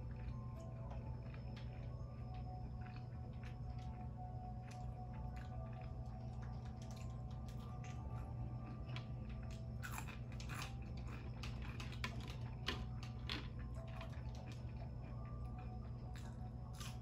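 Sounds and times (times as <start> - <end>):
chewing and crunching fries: 0.0 - 17.0.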